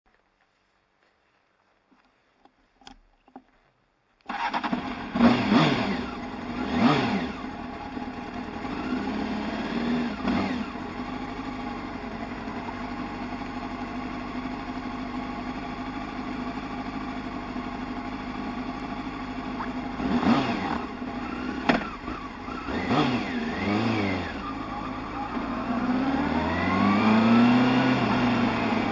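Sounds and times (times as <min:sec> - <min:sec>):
motorcycle engine revving and idling: 0:04.3 - 0:28.9.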